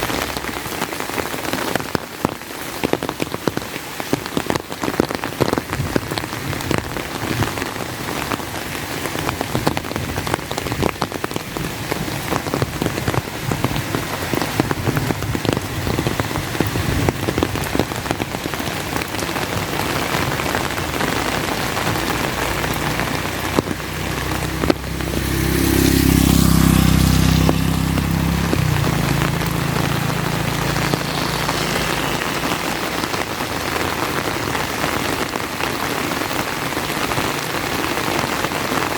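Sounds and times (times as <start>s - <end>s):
rain on an umbrella: 0.0s - 38.9s
vehicle passing on wet road: 0.0s - 38.9s.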